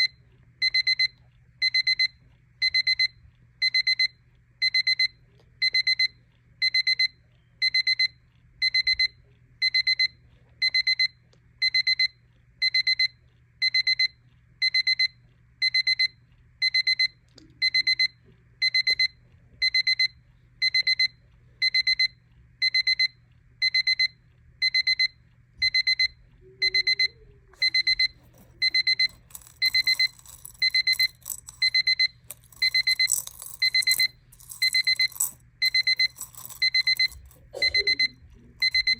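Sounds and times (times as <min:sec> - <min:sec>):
alarm clock beeping: 0:00.0 - 0:38.9.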